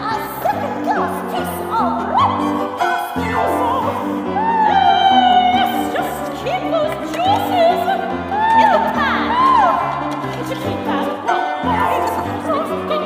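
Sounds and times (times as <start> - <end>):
piano: 0.0 - 13.0
violin: 0.0 - 13.0
woman singing opera: 0.0 - 13.0.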